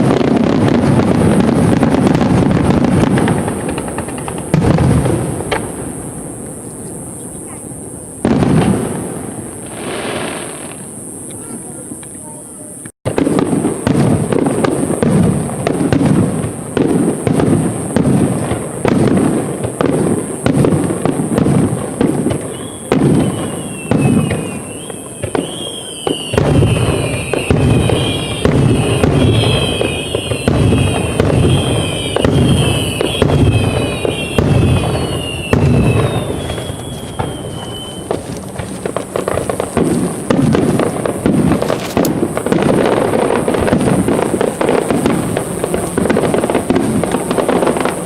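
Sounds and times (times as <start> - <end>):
fireworks shells bursting: 0.0 - 7.6, 8.2 - 48.0.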